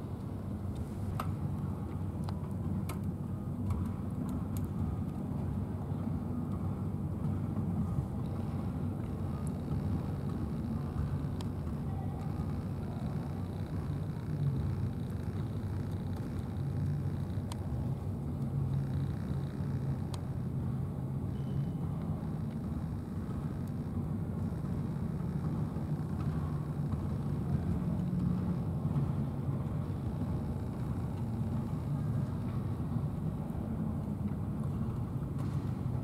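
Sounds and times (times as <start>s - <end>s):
faint hum: 0.0s - 36.0s
low rumble of motor traffic: 0.0s - 36.0s.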